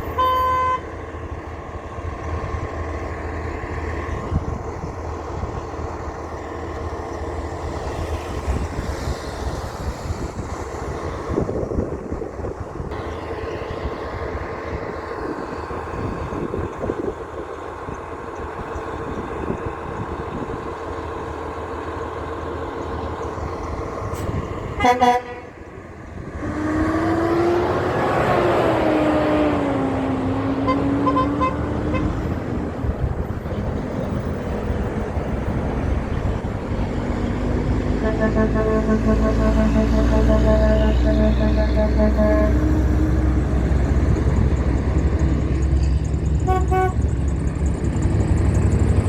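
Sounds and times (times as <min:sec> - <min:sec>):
diesel trucks passing: 0:00.0 - 0:49.0.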